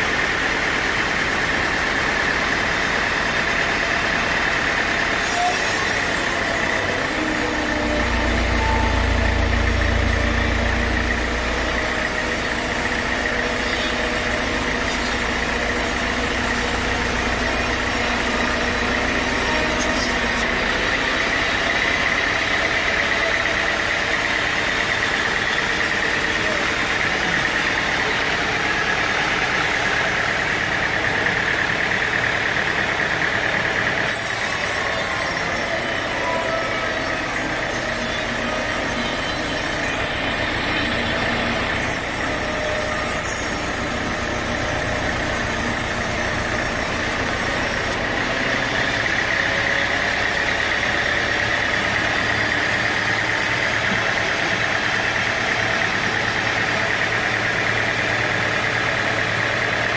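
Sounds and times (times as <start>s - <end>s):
sawmill machinery engine drone: 0.0s - 59.9s.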